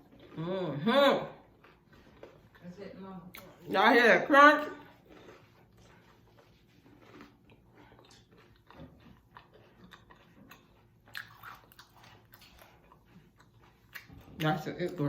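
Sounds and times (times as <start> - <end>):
close-up chewing and crunching: 0.0 - 15.0.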